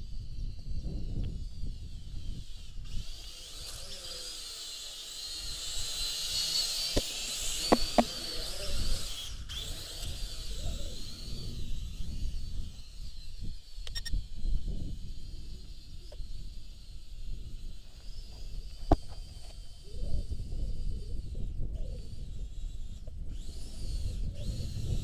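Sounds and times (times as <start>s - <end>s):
wind rumbling on microphone: 0.0s - 4.3s, 5.3s - 25.0s
toy quadcopter propellers whining: 0.0s - 25.0s.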